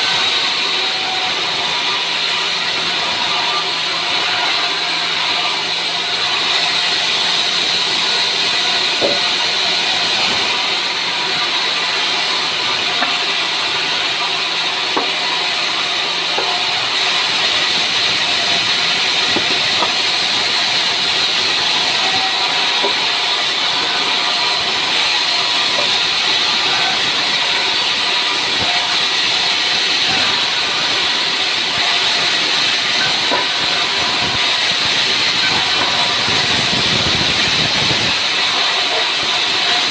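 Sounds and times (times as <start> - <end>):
saw blade cutting wood: 0.0 - 39.9.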